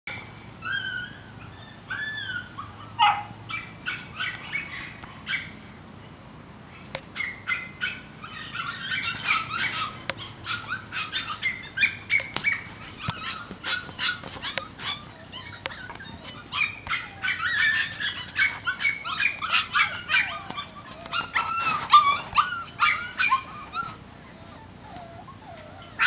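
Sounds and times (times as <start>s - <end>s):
puppies whining: 0.1s - 5.8s, 6.7s - 26.0s
puppies yapping: 0.1s - 26.0s.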